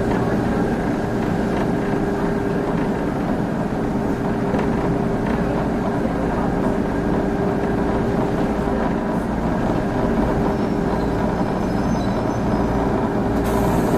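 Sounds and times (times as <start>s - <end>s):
wheels rumbling on rail: 0.0s - 13.9s.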